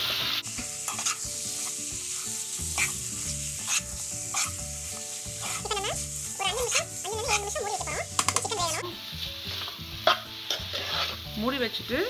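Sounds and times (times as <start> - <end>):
chicken sizzling in sauce: 0.0 - 12.0
spatula scraping a pan: 0.5 - 11.6.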